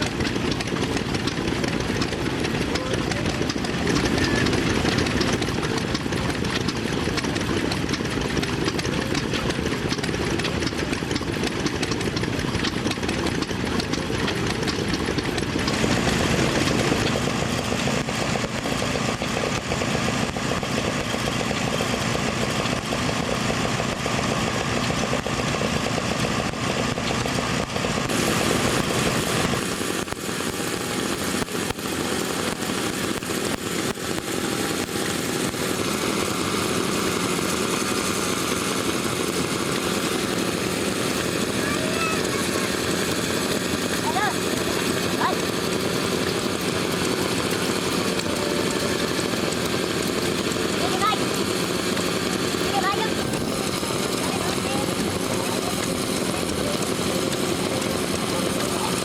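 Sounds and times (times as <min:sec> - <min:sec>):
old machinery running: 0:00.0 - 0:59.0.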